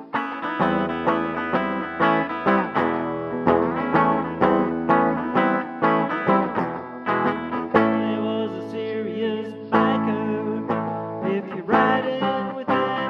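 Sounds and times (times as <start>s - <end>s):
guitar playing: 0.0s - 13.0s.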